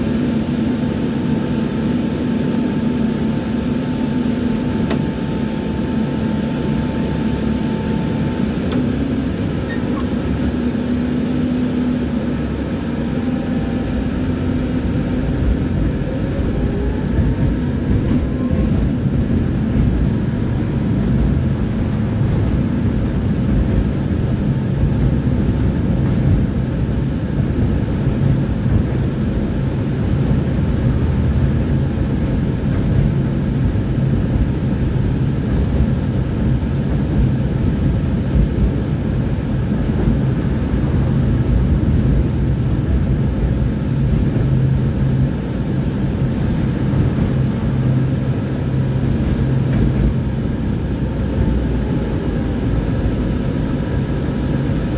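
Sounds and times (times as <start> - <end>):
even tram hum: 0.0 - 54.9
tram wheels rumbling on rails: 0.0 - 54.9.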